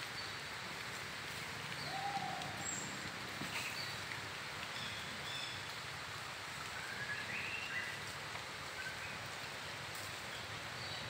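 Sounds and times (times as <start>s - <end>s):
steady forest hiss: 0.0s - 11.0s.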